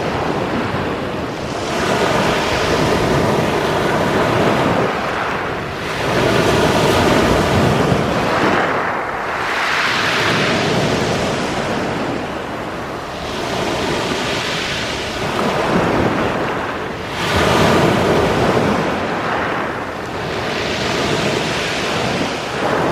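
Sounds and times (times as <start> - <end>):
waves breaking on pebble beach: 0.0 - 22.9.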